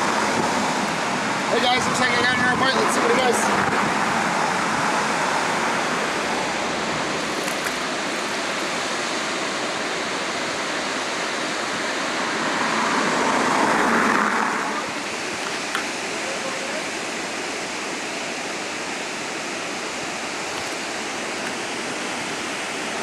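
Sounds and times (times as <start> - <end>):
river water rushing over weir: 0.0 - 23.0.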